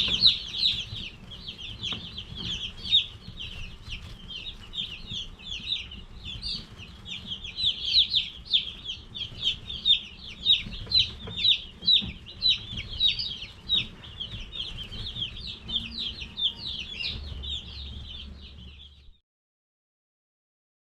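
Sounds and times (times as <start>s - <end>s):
chicks peeping: 0.0s - 19.2s.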